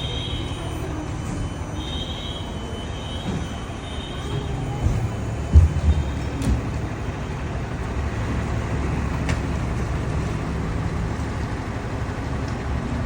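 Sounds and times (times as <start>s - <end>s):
large vehicle engine humming: 0.0s - 13.0s
street traffic: 0.0s - 13.0s.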